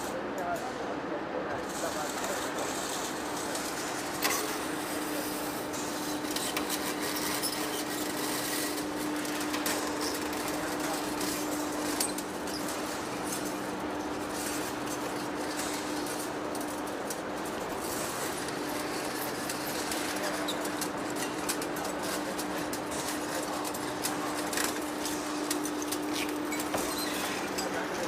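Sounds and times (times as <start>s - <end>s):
lathe running with hum: 1.3s - 28.0s.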